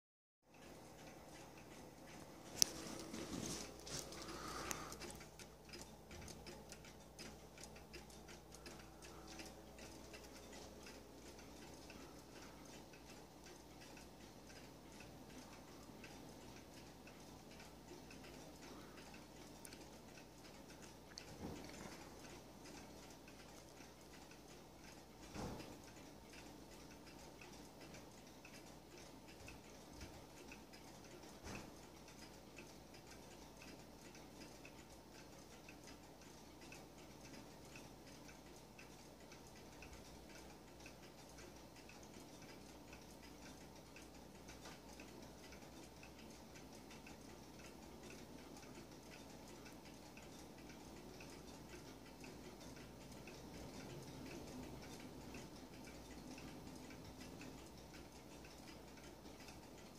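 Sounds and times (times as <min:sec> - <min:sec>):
clock ticking: 0:00.5 - 0:59.9.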